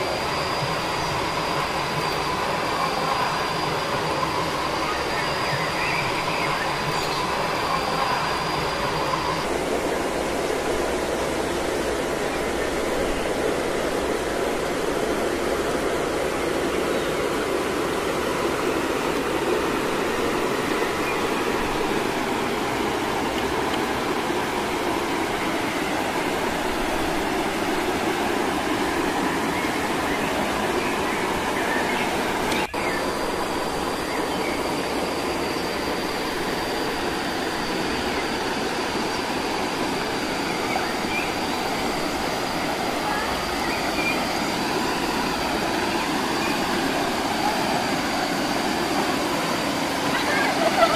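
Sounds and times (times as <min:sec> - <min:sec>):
faint high steady tone: 0:00.0 - 0:50.9
waterfall and stream rushing: 0:00.0 - 0:50.9.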